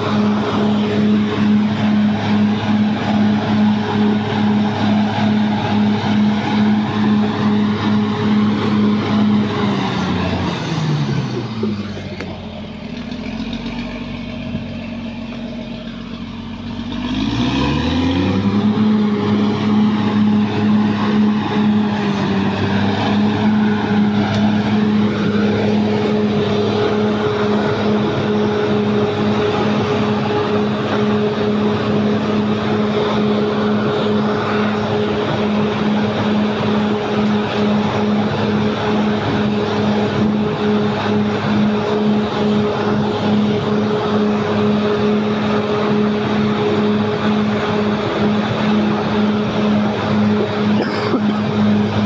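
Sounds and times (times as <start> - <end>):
bulldozer diesel engine revving: 0.0 - 52.0.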